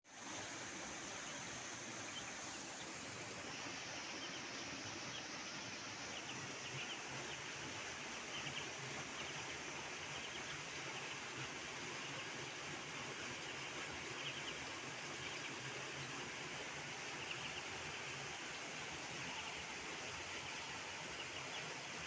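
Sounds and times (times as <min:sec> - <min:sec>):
constant high hiss: 0:00.0 - 0:22.0
faint bird chirps: 0:01.1 - 0:22.0.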